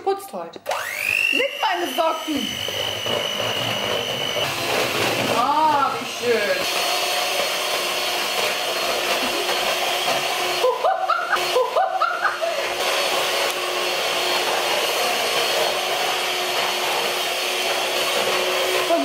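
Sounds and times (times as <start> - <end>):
electric mixer whipping batter: 0.6 - 19.0.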